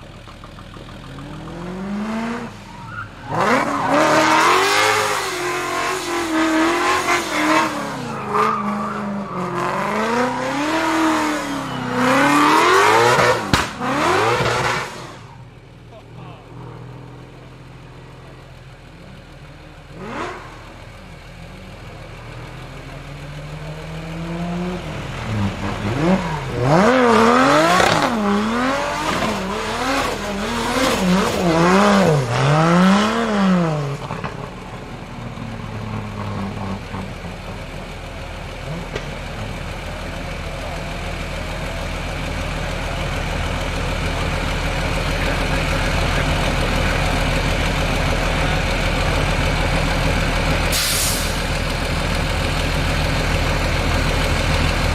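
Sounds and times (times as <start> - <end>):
car engine revving: 0.0 - 15.7, 16.4 - 54.9.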